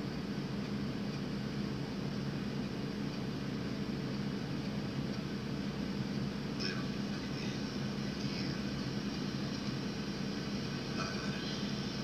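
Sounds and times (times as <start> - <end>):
steady background hum and hiss: 0.0 - 12.0.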